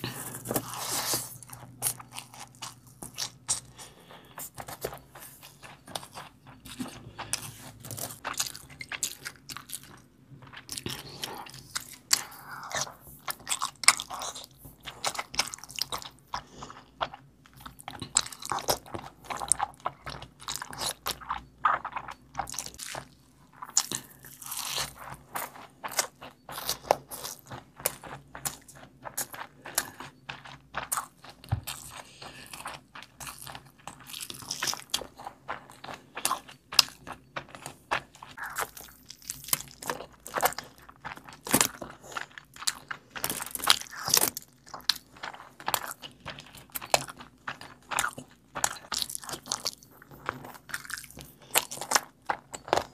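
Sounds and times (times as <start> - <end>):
chewing with mouth clicks: 0.0 - 52.9
fingers squishing through rice: 0.0 - 52.9.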